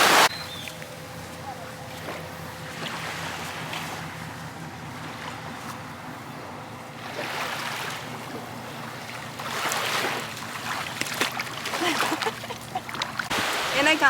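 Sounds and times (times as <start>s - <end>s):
low steady hum: 0.0s - 14.0s
sea water washing: 0.0s - 14.0s
wind: 0.0s - 14.0s.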